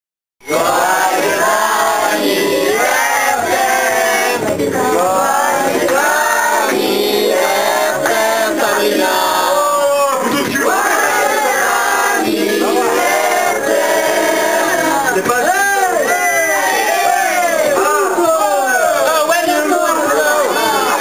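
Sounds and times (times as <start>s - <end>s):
group of people singing: 0.4s - 21.0s.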